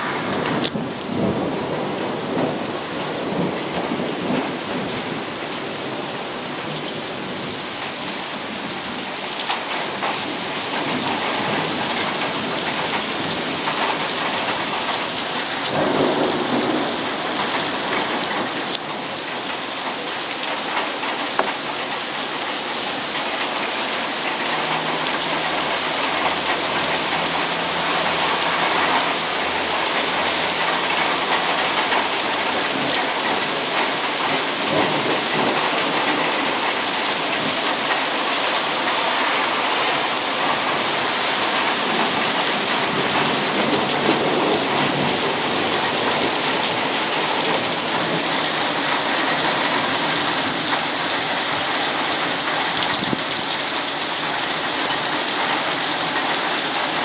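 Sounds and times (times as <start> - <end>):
heavy rain pouring: 0.0 - 57.0
thunder rumble: 0.0 - 57.0.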